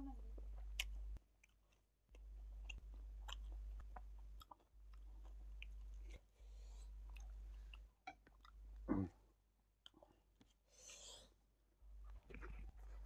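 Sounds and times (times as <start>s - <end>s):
man chewing food: 0.3s - 13.0s.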